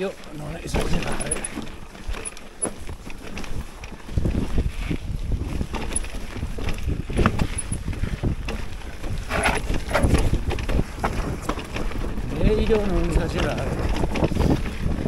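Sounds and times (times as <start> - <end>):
bike knocking and rattling: 0.0 - 15.0
tyres rumbling on trail: 0.0 - 15.0.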